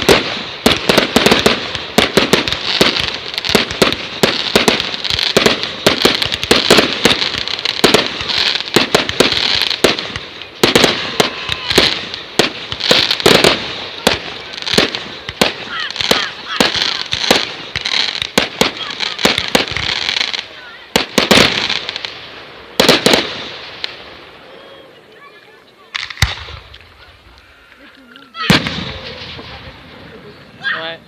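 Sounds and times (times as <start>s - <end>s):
fireworks bangs: 0.0s - 31.0s
fireworks crackling hiss: 0.0s - 31.0s.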